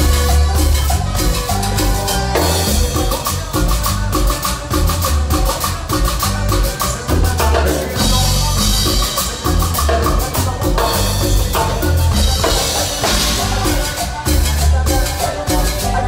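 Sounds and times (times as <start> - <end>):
latin dance band playing: 0.0 - 16.0.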